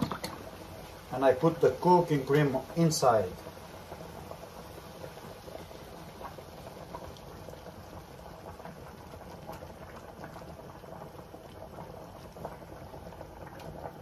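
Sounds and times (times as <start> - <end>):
food bubbling and crackling in pan: 0.0 - 14.0.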